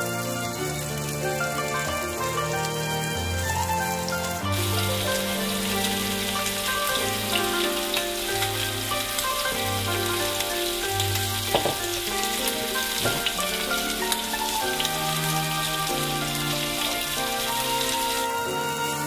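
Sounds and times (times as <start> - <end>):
background music: 0.0 - 19.0
food frying in hot oil: 0.0 - 19.0.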